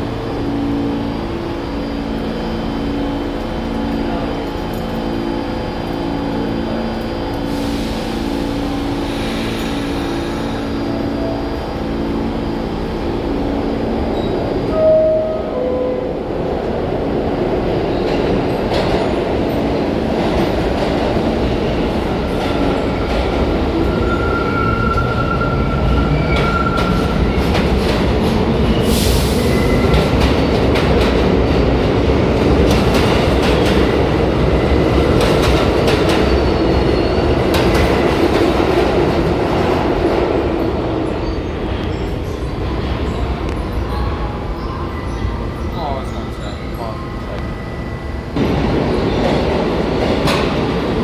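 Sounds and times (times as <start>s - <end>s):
subway train rumble: 0.0s - 51.0s.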